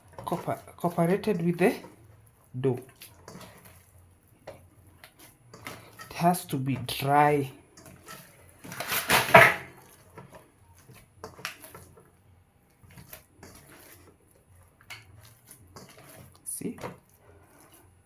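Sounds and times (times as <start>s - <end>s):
dough squishes and taps: 0.0s - 17.9s
dough squelching by hand: 0.0s - 18.0s.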